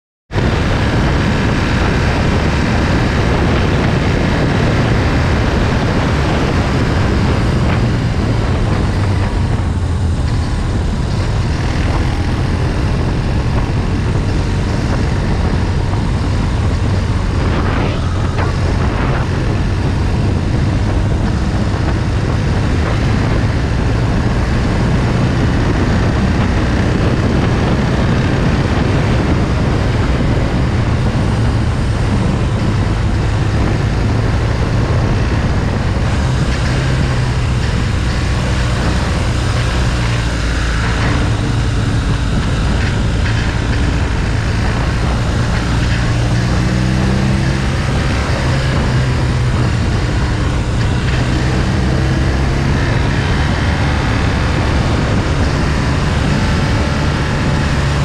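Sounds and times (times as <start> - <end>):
motorcycle engine running: 0.3 - 58.0
road noise: 0.3 - 58.0
wind noise: 0.3 - 58.0.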